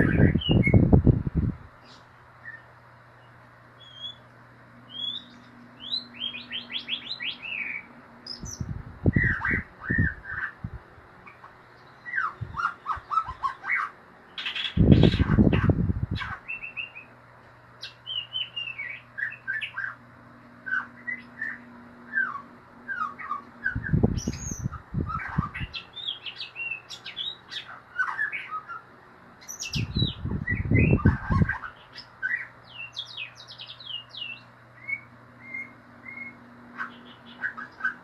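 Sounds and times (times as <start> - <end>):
songbird chattering chirps and whistles: 0.0 - 1.0, 1.8 - 4.3, 4.9 - 17.2, 17.8 - 20.0, 20.6 - 38.0.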